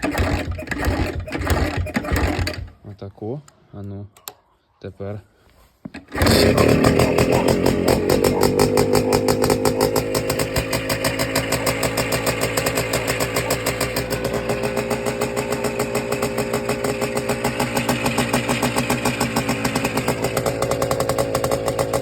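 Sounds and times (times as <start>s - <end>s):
two-stroke motorcycle engine running: 0.0s - 2.7s, 6.1s - 22.0s.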